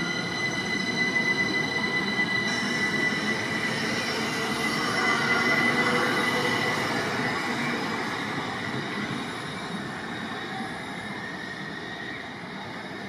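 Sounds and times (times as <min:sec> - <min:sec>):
train rumbling: 0:00.0 - 0:13.0
train wheels squealing: 0:00.0 - 0:13.0.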